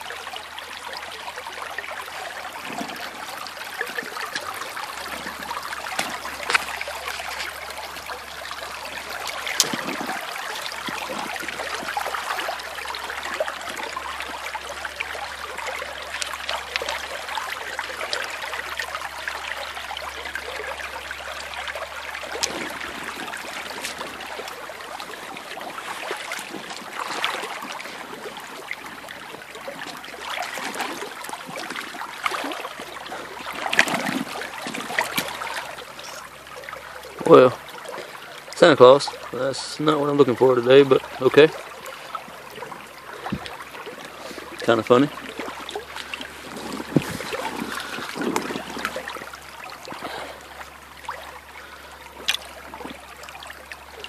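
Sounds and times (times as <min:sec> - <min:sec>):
creek running over pebbles: 0:00.0 - 0:54.0
splashes and stone knocks: 0:01.6 - 0:36.5, 0:39.3 - 0:54.0.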